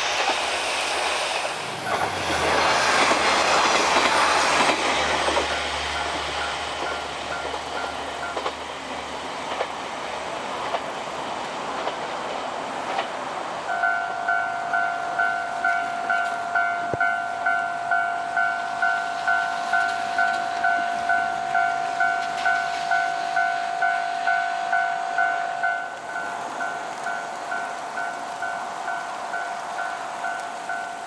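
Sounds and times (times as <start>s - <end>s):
diesel railcar running on wet track: 0.0s - 31.0s.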